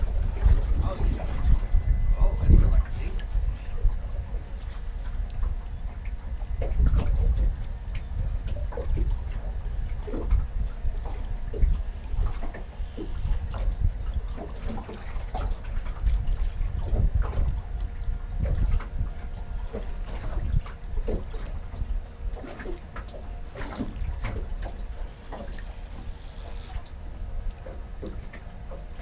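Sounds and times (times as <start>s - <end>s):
low rumble: 0.0s - 29.0s
waves lapping against boat hull: 0.0s - 29.0s.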